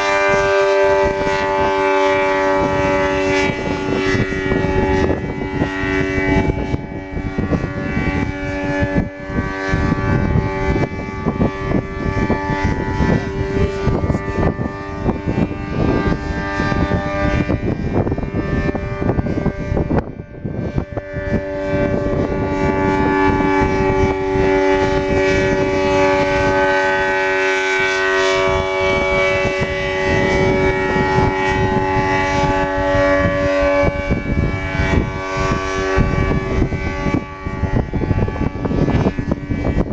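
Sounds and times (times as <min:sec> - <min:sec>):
outdoor warning siren chord: 0:00.0 - 0:39.9.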